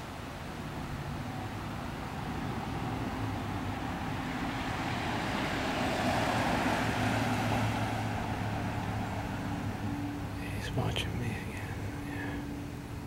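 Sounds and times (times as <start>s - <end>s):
rushing background noise: 0.0s - 13.0s
steady low hum: 0.0s - 13.0s.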